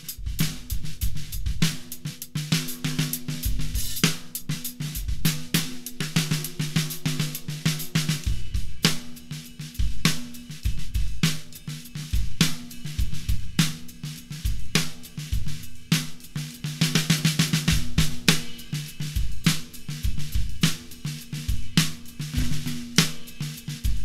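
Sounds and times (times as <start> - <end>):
drum kit groove: 0.0 - 24.0
snare drum ringing low: 0.0 - 24.0.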